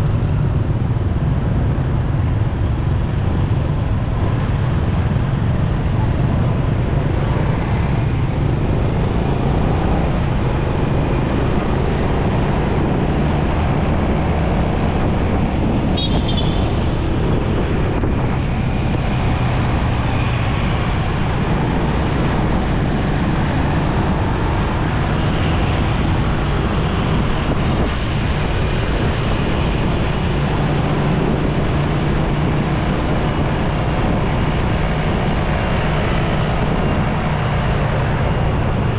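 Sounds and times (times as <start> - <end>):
motorcycle engine cruising: 0.0 - 38.9
passing traffic: 0.0 - 38.9
tyre and wind noise: 0.0 - 38.9.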